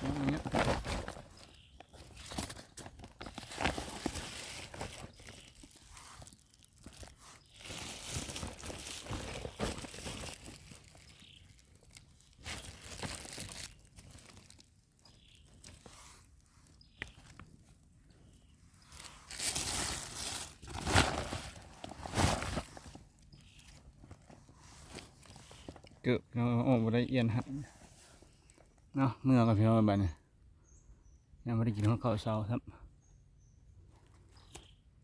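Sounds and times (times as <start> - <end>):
rustling and crunching plants: 0.0 - 29.6.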